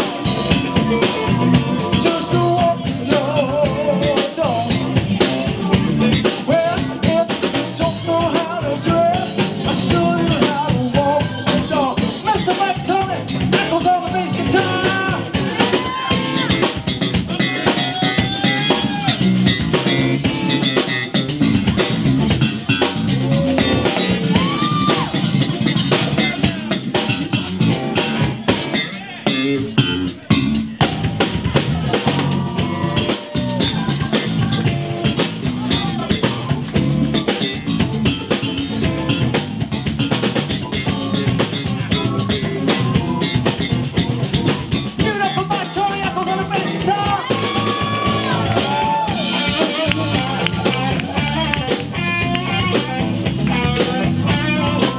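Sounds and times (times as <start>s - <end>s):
drum kit: 0.0s - 54.9s
electric bass: 0.0s - 54.9s
electric guitar lead: 0.0s - 54.9s.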